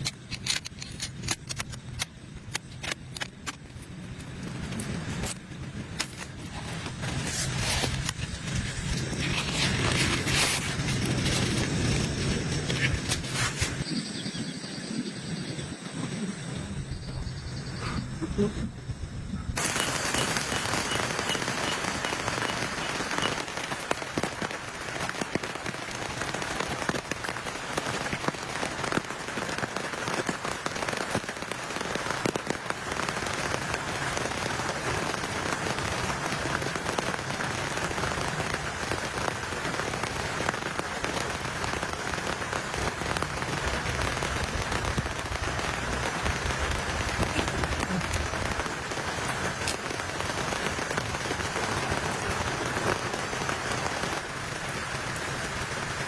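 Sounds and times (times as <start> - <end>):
rain falling: 2.8 - 13.8, 19.6 - 56.0.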